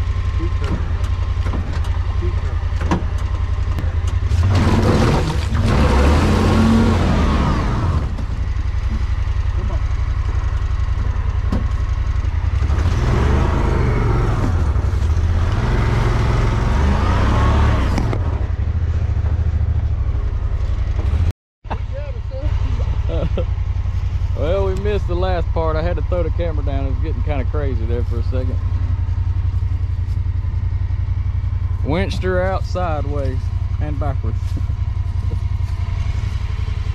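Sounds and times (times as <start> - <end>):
vehicle engine running: 0.0 - 36.9.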